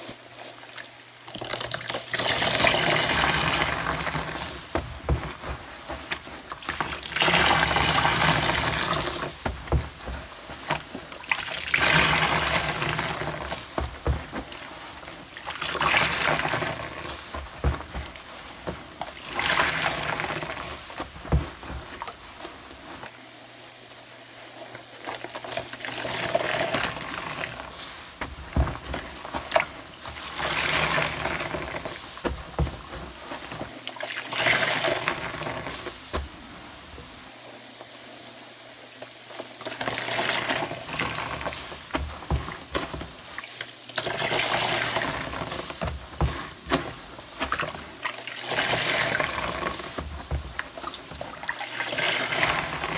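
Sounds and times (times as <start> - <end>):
sponge squeezed in water: 0.0 - 23.4, 24.4 - 37.4, 39.3 - 52.9
water gushing and dripping: 0.4 - 23.2, 24.7 - 37.3, 39.0 - 52.9.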